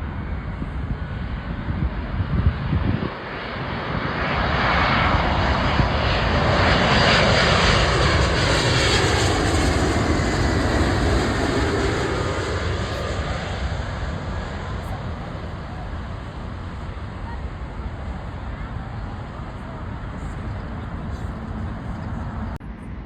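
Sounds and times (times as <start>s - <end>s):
jet airliner passing by: 0.0s - 23.0s.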